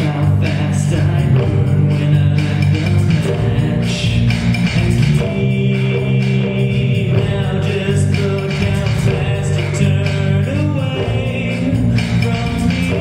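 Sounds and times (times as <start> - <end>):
electronic music held notes: 0.0 - 13.0.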